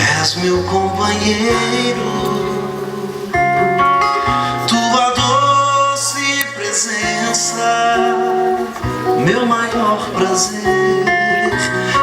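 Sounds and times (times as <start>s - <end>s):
guitar sustained chords: 0.0s - 12.0s
worship song singing: 0.0s - 12.0s.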